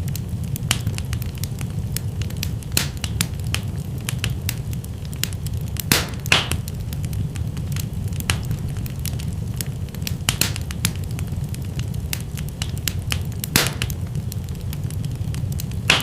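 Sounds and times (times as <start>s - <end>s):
fire popping: 0.0s - 16.0s
low rumble of flames: 0.0s - 16.0s
wood fire crackling: 0.0s - 16.0s.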